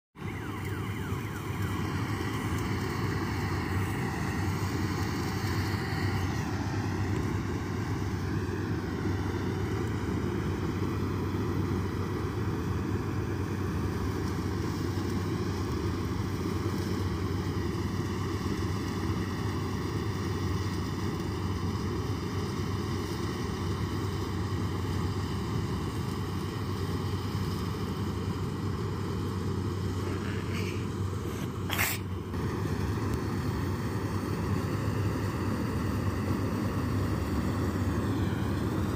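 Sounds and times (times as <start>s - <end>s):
combine harvester running: 0.2s - 38.9s.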